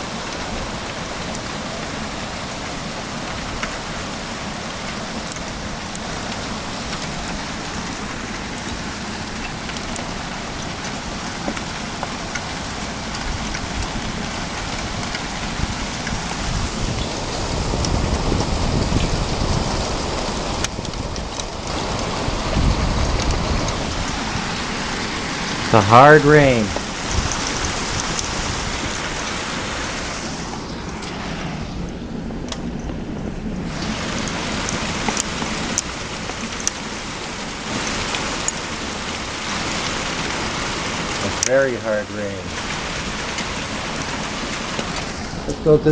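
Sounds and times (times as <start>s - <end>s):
hard rain pouring: 0.0s - 45.9s
raindrops ticking nearby: 0.0s - 45.9s.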